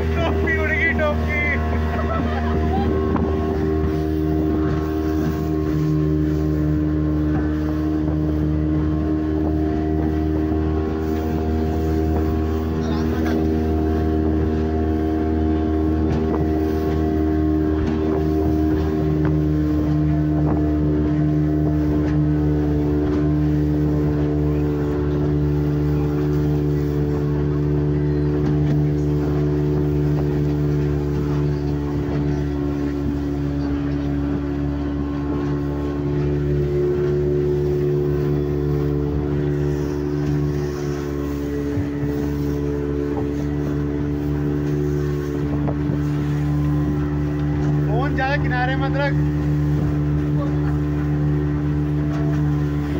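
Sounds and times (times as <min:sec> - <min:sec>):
motorboat engine running: 0:00.0 - 0:52.9.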